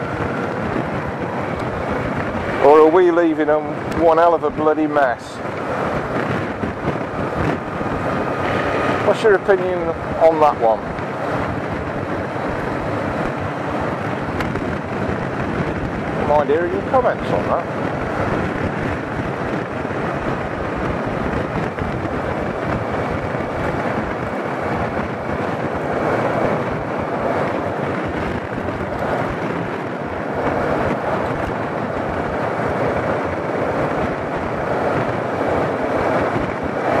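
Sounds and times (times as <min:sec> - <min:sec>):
motorcycle road noise: 0:00.0 - 0:37.0
wind rushing over microphone: 0:00.0 - 0:37.0.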